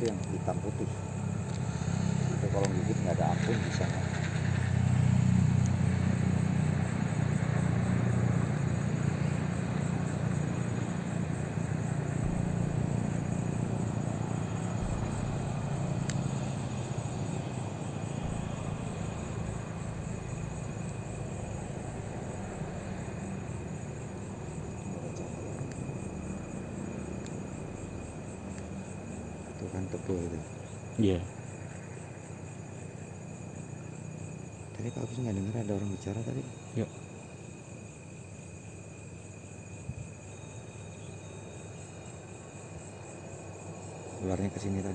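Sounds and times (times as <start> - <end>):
low engine rumble: 0.0 - 37.4
insect trill: 0.0 - 44.9.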